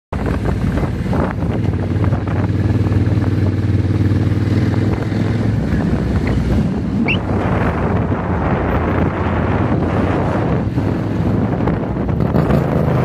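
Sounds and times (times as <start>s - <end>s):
motorcycle engine running: 0.2s - 13.0s
wind buffeting microphone: 0.2s - 13.0s.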